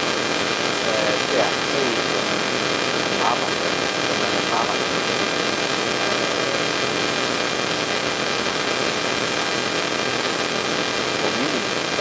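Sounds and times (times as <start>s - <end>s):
faint steady hum: 0.0s - 12.0s
steady hiss: 0.0s - 12.0s.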